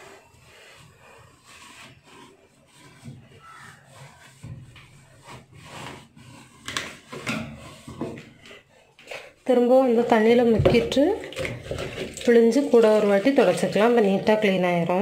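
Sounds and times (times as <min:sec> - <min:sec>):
damp cloth rubbing a surface: 0:00.0 - 0:11.1, 0:11.7 - 0:15.0.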